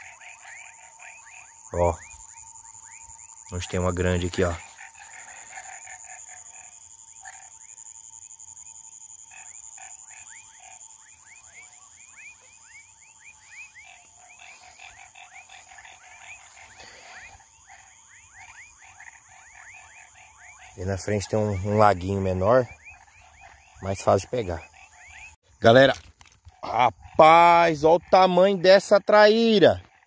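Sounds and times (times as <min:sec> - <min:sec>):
frogs calling: 0:00.0 - 0:30.0.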